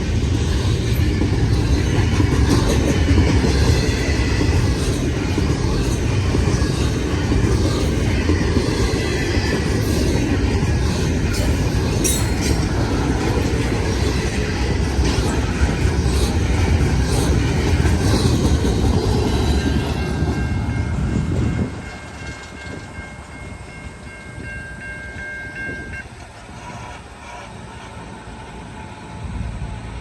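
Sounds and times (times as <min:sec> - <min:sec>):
freight train wheels clattering: 0:00.0 - 0:28.1.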